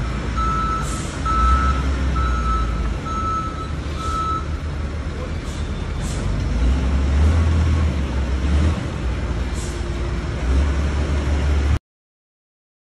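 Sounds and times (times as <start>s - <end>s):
diesel truck engine rumble: 0.0s - 11.8s.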